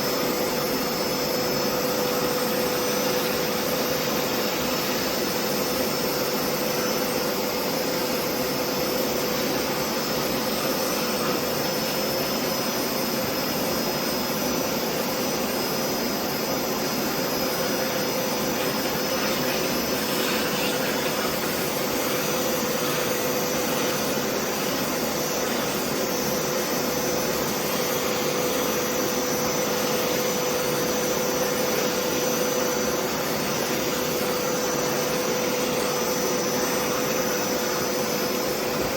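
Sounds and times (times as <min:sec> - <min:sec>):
carpet cleaner motor running: 0:00.0 - 0:38.9.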